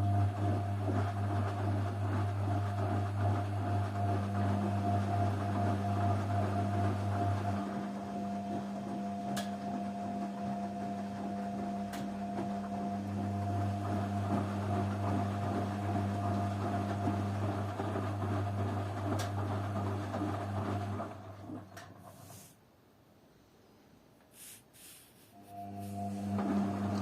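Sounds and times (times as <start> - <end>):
washing machine motor humming: 0.0 - 22.5, 24.3 - 27.0.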